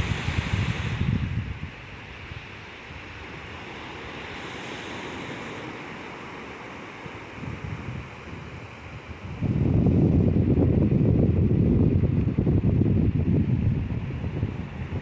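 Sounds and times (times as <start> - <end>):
ocean waves on shore: 0.0 - 15.0.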